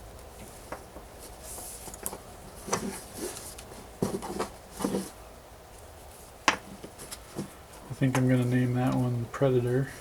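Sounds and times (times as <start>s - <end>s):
soft rustles and knocks: 0.3s - 9.2s.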